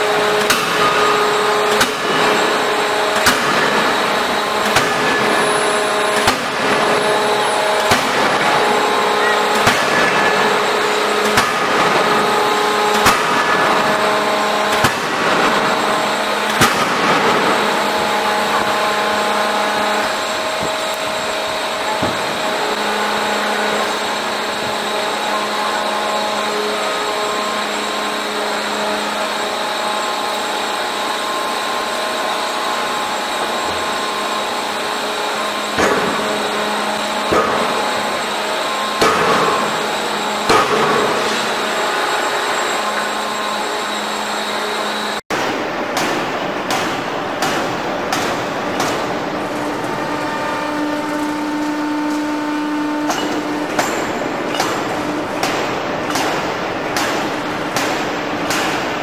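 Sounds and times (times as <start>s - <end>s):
forging hammer blows: 0.0s - 59.0s
machinery hum: 0.0s - 59.0s.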